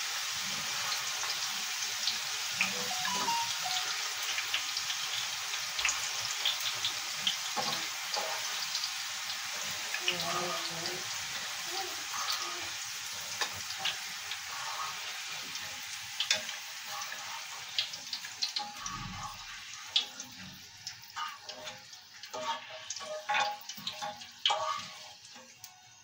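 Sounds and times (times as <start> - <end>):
oil sizzling in a frying pan: 0.0 - 26.0.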